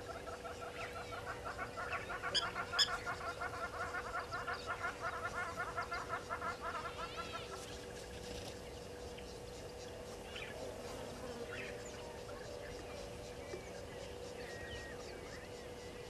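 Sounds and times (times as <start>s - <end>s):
birds chattering: 0.0s - 16.0s
faint steady hum: 0.0s - 16.0s.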